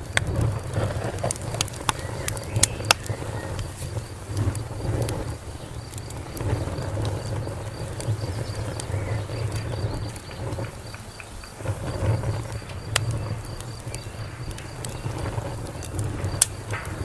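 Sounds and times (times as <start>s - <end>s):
insect chirping: 0.0s - 17.0s
wood fire crackling: 0.0s - 17.0s.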